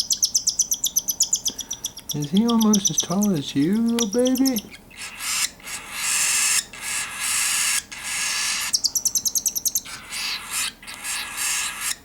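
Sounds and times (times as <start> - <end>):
baby cockatiel begging calls: 0.0 - 12.0.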